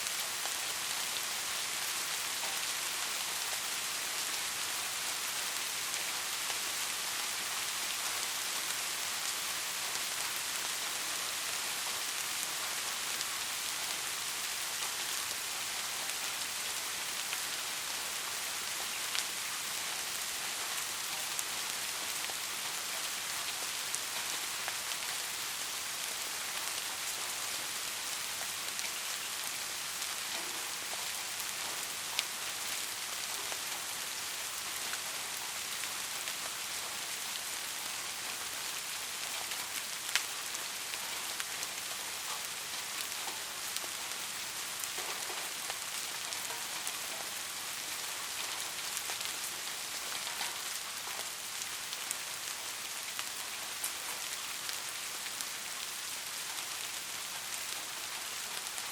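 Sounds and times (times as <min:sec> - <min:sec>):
rain hissing: 0:00.0 - 0:58.9.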